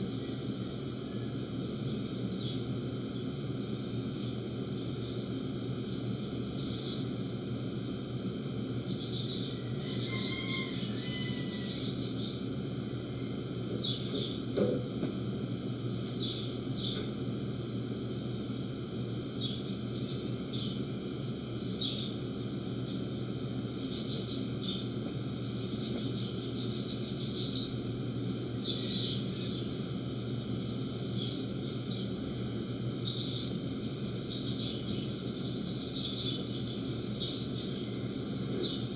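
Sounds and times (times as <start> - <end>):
low hum and hiss: 0.0 - 38.9.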